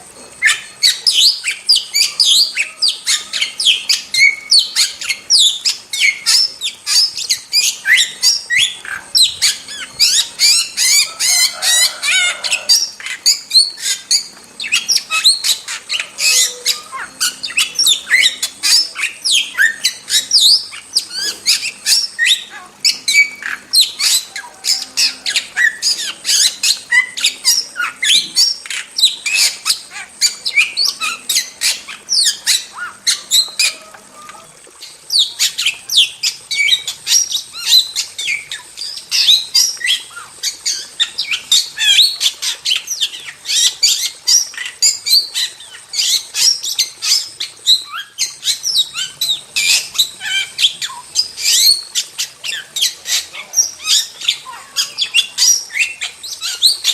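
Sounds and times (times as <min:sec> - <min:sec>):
starling squawks and chirps: 0:00.0 - 0:56.9.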